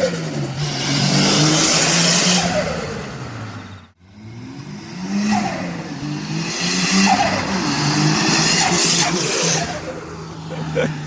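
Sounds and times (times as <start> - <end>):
turbocharged car engine revving: 0.0 - 11.0.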